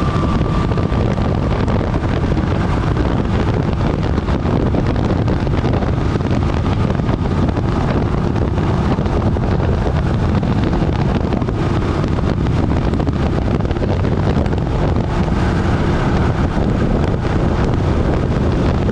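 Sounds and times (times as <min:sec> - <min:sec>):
motorcycle engine running: 0:00.0 - 0:18.9
wind buffeting microphone: 0:00.0 - 0:18.9.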